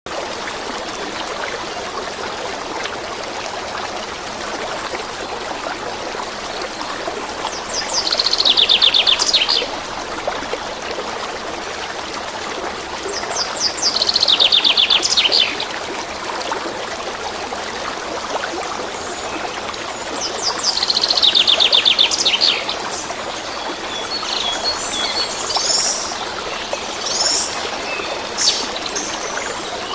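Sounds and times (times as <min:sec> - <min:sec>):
water running steadily: 0:00.1 - 0:29.9.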